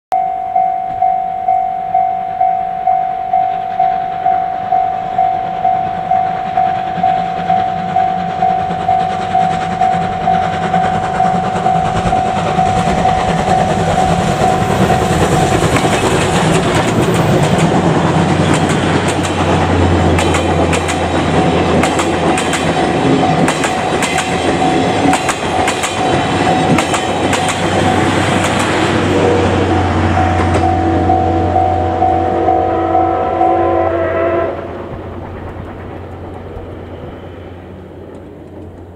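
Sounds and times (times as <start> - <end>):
level-crossing warning bell: 0.1 - 34.5
train rumble and wheel clatter: 0.4 - 38.9.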